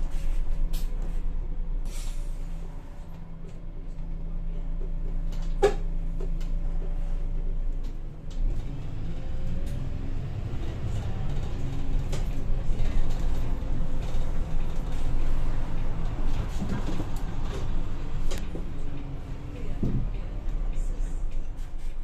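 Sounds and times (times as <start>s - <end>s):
bus diesel engine rumble: 0.0s - 22.0s.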